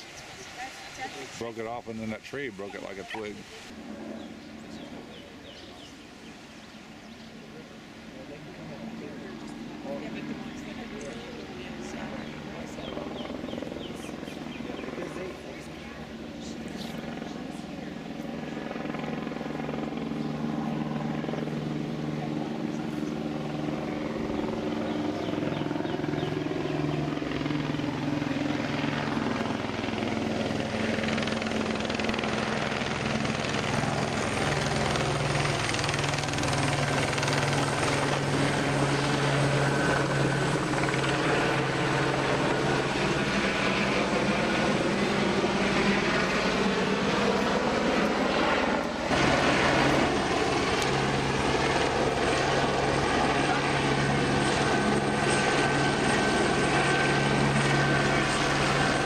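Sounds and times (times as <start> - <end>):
helicopter flying overhead: 0.0 - 59.0.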